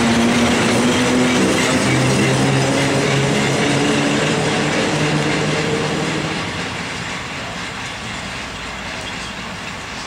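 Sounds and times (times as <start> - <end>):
wheels rumbling on rails: 0.0 - 10.0.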